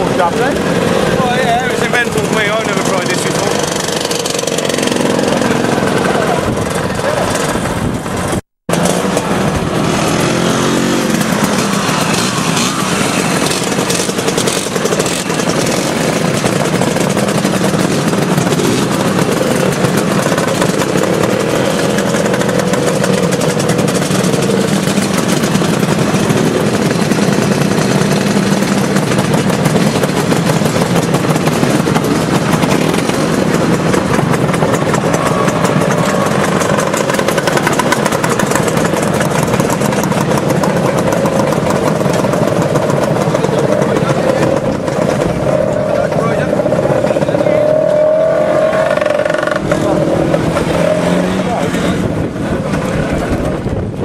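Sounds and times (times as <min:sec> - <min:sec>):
scooter engine revving: 0:00.0 - 0:54.0
scooter engines idling: 0:00.0 - 0:54.0.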